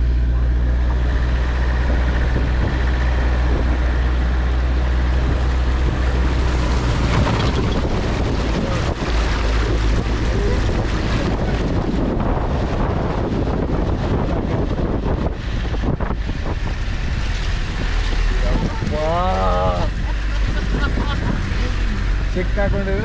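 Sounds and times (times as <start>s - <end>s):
diesel engine droning: 0.0s - 23.0s
water rushing: 0.0s - 23.0s
wind noise on microphone: 0.0s - 23.0s.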